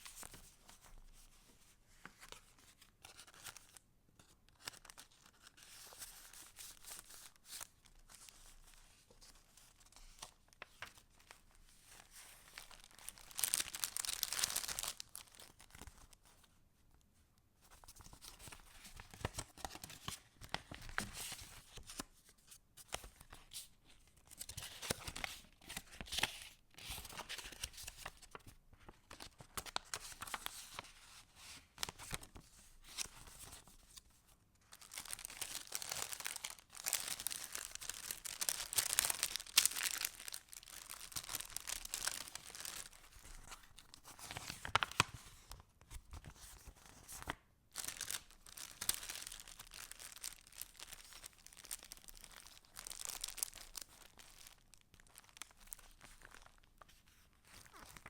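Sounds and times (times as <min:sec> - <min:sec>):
paper pages rustling and crinkling: 0:00.0 - 0:16.5, 0:17.6 - 0:58.0.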